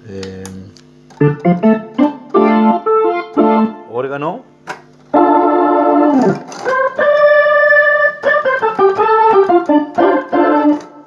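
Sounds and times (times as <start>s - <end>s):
organ chords and runs: 0.8s - 11.0s.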